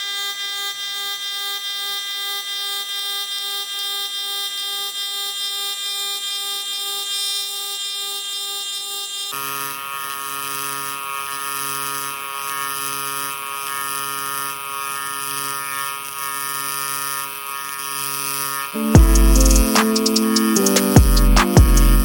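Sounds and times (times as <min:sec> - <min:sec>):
welding arc buzzing and hissing: 0:00.0 - 0:22.0.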